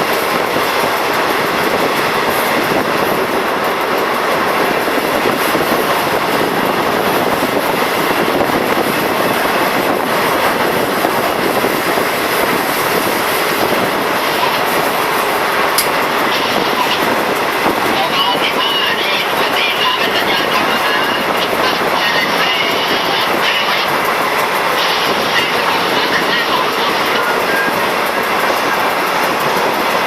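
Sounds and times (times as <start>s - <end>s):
train wheels on rail: 0.0s - 30.0s.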